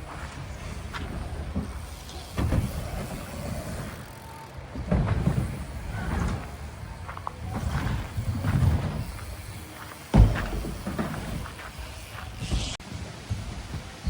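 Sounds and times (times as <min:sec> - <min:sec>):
bike tyres rumbling: 0:00.0 - 0:14.0.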